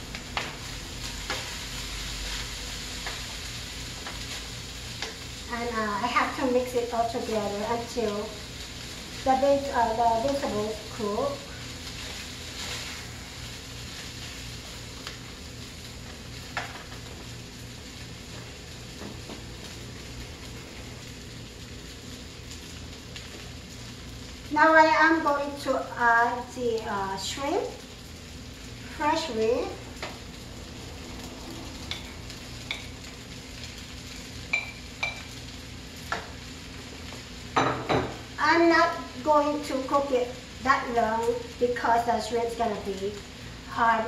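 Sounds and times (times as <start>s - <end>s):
rice sizzling in a pan: 0.0s - 44.0s.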